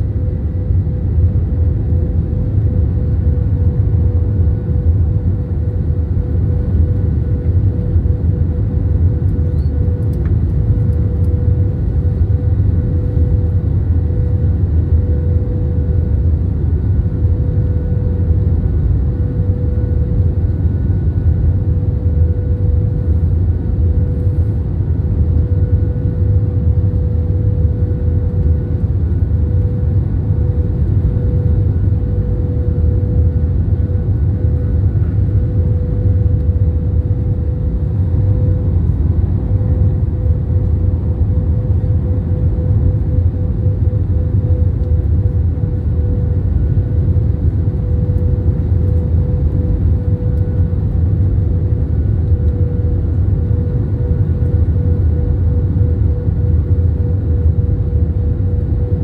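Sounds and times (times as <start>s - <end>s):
airliner cabin engine rumble: 0.0s - 59.0s
steady hum: 0.0s - 59.0s.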